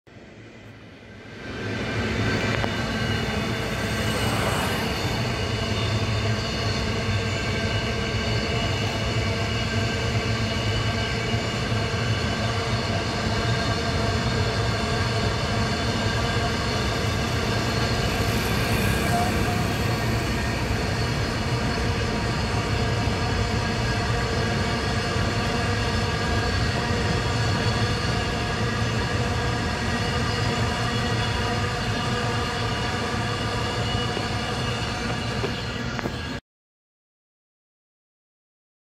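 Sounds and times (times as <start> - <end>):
constant drone: 0.1 - 36.4
freight train rumbling past: 0.1 - 36.4.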